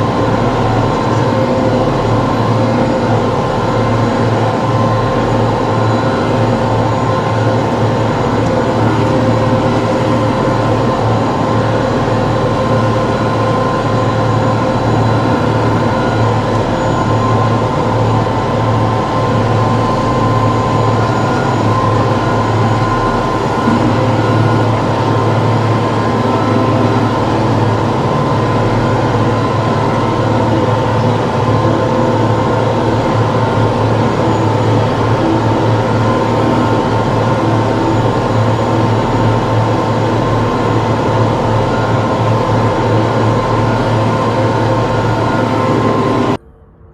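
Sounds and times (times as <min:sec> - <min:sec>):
tractor diesel engine droning: 0:00.0 - 0:46.9.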